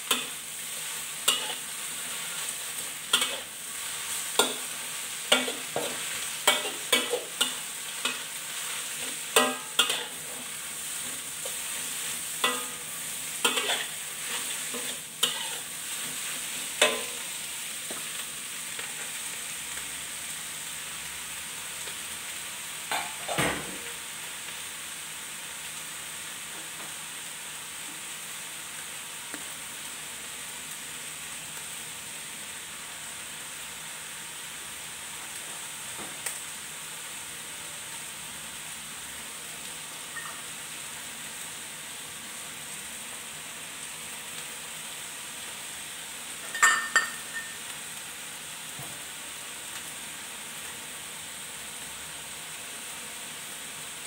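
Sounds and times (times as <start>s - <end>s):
vegetables sizzling in a wok: 0.0s - 54.0s.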